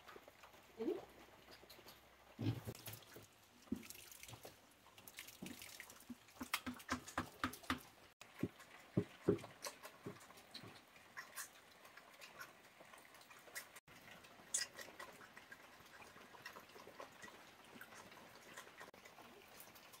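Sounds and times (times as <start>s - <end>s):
water splashing and dripping: 0.0s - 20.0s.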